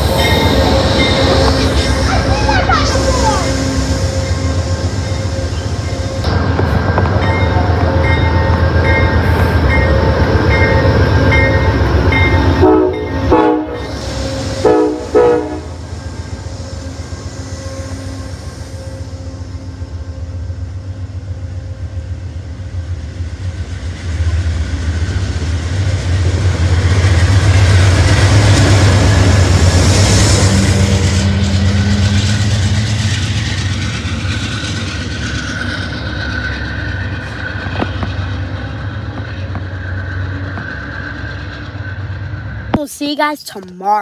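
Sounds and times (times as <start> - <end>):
diesel locomotive engine drone: 0.0 - 44.0
passenger coaches rolling by: 0.0 - 44.0.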